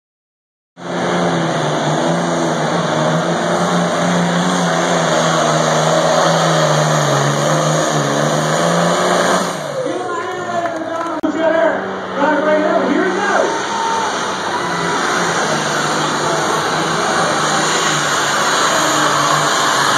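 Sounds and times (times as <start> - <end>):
pulling vehicle engine running hard: 0.8 - 19.9.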